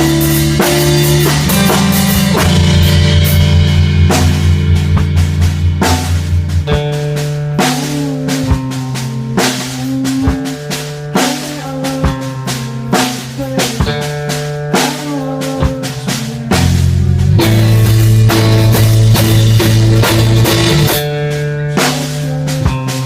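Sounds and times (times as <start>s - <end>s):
drum kit beat: 0.0s - 23.0s
rock music: 0.0s - 23.0s.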